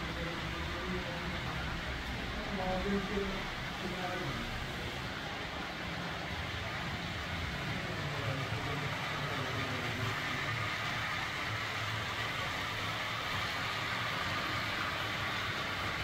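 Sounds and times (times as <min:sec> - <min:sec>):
model train whirring on track: 0:00.0 - 0:16.0.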